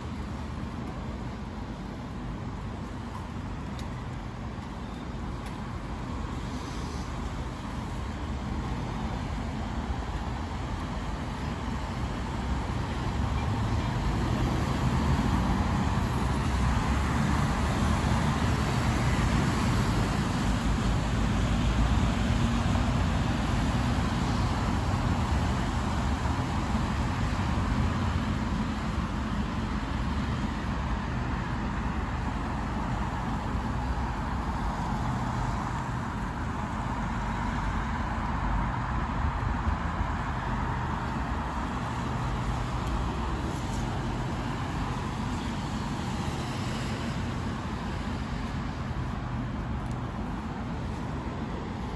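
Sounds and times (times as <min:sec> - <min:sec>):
road traffic: 0:00.0 - 0:51.9.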